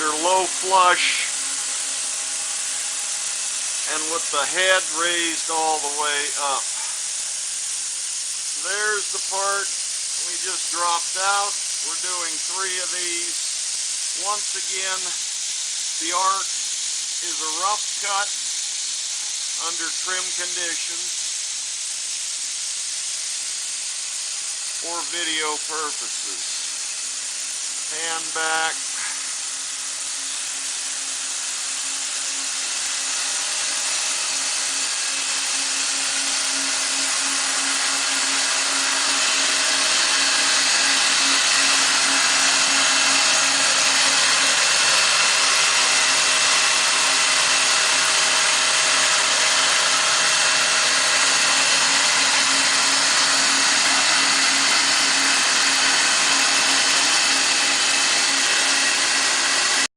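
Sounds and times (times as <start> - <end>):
machine hiss of wire cutting: 0.0 - 59.9.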